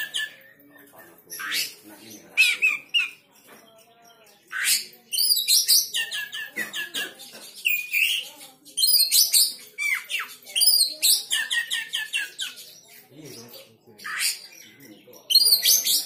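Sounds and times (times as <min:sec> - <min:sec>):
bird scratchy chattering: 0:00.0 - 0:16.0.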